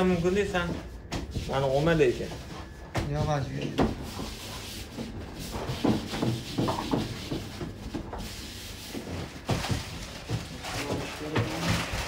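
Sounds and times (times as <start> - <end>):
dough rolled on wooden table: 0.0 - 10.5.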